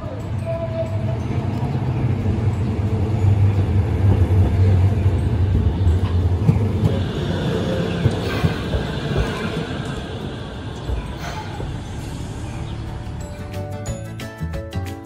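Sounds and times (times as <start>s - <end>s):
streetcar motor humming: 0.0s - 14.8s
steel wheels grinding on rails: 0.2s - 14.0s.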